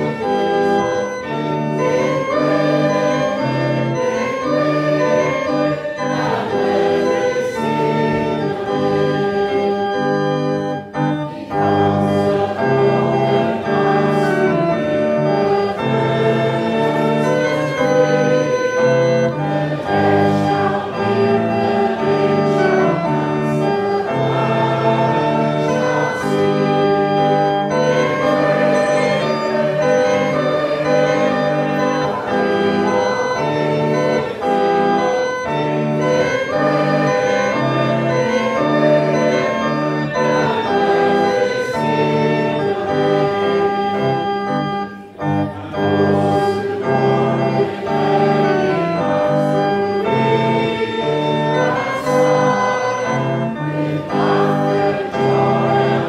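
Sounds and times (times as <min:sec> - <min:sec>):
church organ: 0:00.0 - 0:56.0
congregation singing a hymn: 0:00.0 - 0:56.0.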